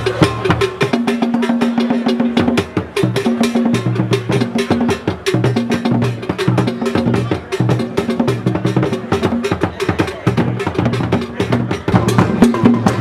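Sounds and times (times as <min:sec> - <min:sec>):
music with fast percussion beat: 0:00.0 - 0:13.0.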